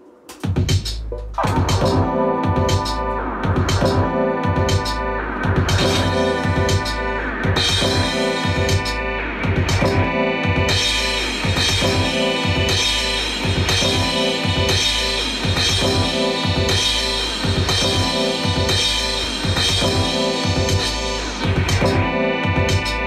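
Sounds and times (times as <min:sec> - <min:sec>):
instrumental beat with drums: 0:00.3 - 0:23.0.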